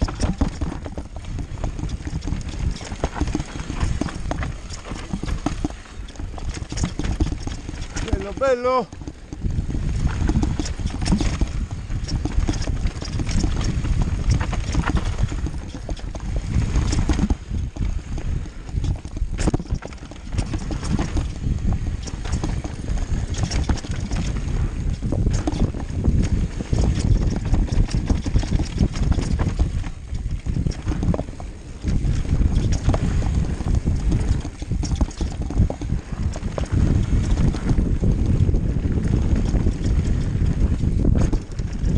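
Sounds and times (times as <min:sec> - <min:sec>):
wind rumble on microphone: 0:00.0 - 0:41.9.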